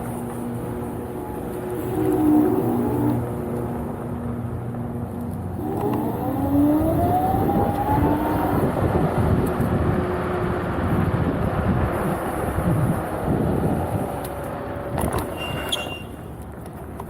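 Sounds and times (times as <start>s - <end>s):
electric scooter motor whining: 0.0s - 17.0s
road noise: 0.0s - 17.0s
rushing wind: 0.0s - 17.0s.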